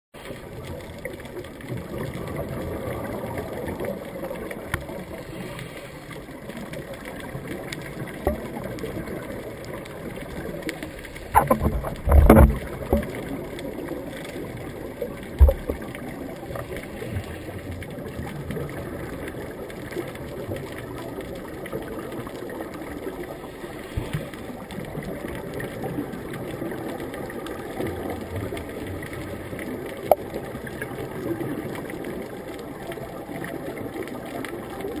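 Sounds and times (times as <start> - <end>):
muffled underwater ambience: 0.2 - 35.0.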